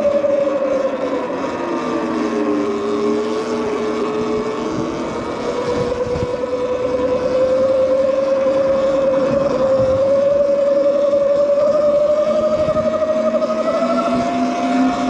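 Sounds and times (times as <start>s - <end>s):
electric bike motor whining: 0.0s - 15.0s.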